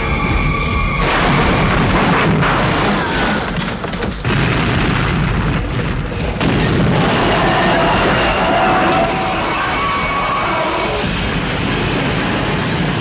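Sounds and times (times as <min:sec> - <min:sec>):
train crashing and booming: 0:00.0 - 0:13.0.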